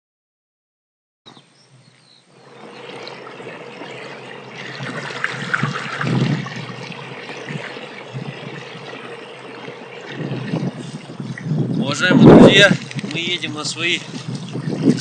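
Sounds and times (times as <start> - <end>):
water splashing and trickling: 2.3 - 15.0.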